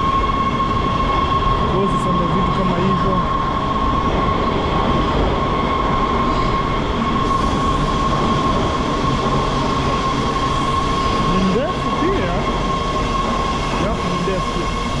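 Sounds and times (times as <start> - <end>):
high-pitched squeal: 0.0 - 15.0
train running noise: 0.0 - 15.0.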